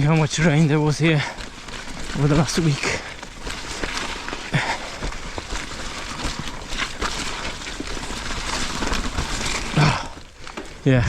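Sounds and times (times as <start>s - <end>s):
bike clicks and rattles: 0.0s - 11.0s
tyres rolling through mud: 0.0s - 11.0s.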